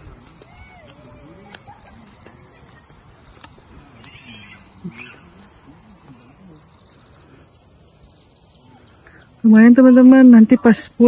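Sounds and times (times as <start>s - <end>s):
faint distant voices: 0.0s - 11.0s
insects chirring: 0.0s - 11.0s.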